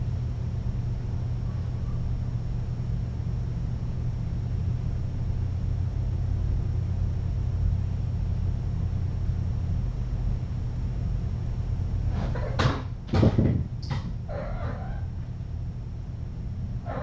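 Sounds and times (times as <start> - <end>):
low rumble of room noise: 0.0 - 17.0.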